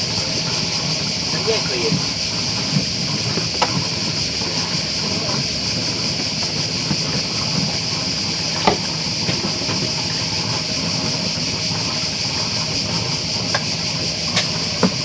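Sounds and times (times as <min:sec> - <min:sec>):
high hiss of outdoor ambience: 0:00.0 - 0:15.0.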